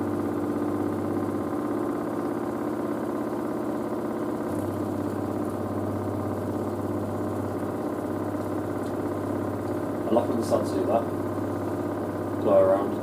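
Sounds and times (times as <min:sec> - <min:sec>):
washing machine spinning hum: 0:00.0 - 0:13.0.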